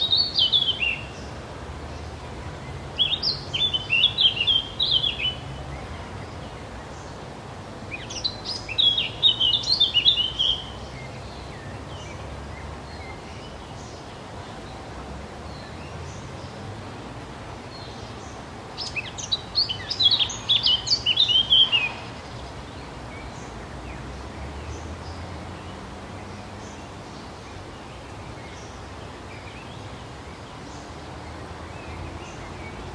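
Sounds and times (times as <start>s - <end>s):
songbird warbling chirps: 0.0s - 7.2s, 7.9s - 16.6s, 17.6s - 32.9s.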